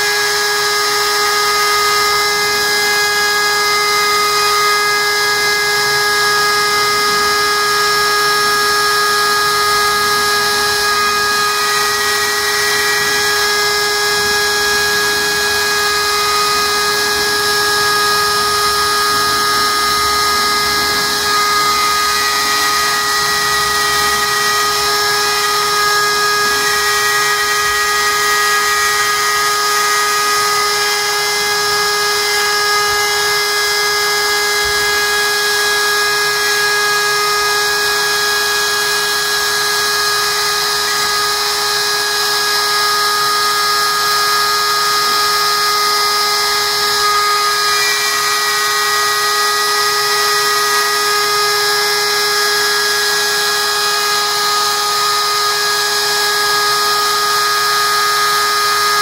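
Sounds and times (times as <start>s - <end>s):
router whining cutting plywood: 0.0s - 59.0s.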